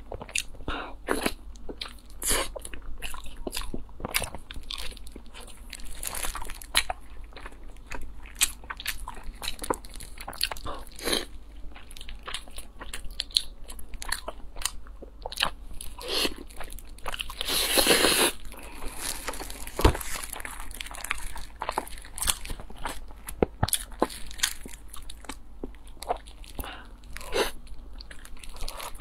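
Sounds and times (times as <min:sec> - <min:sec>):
chewing soft food: 0:00.0 - 0:29.0.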